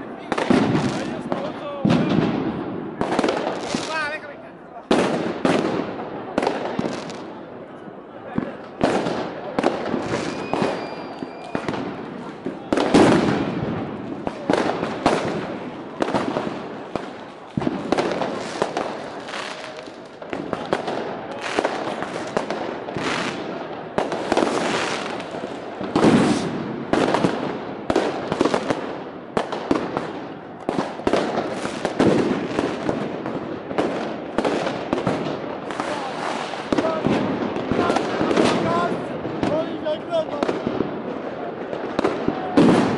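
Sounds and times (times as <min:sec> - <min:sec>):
fireworks and firecrackers banging: 0:00.0 - 0:42.9.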